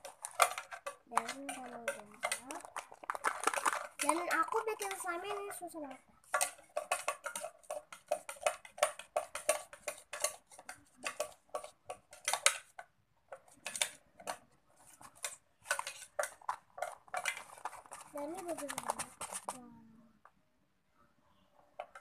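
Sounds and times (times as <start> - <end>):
plastic spoon stirring slime: 0.0 - 19.7.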